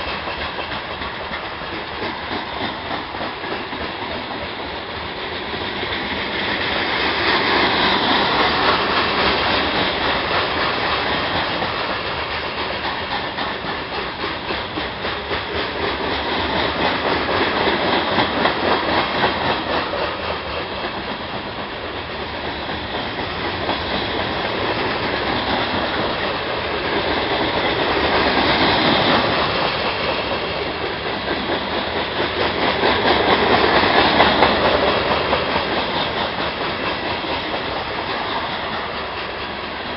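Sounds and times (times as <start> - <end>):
steel wheels clacking over rail joints: 0.0 - 39.9.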